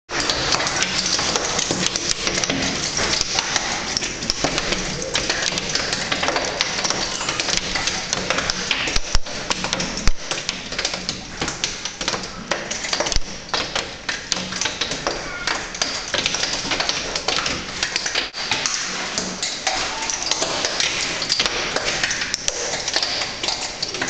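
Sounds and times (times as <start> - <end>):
hail tapping on glass: 0.1 - 24.0.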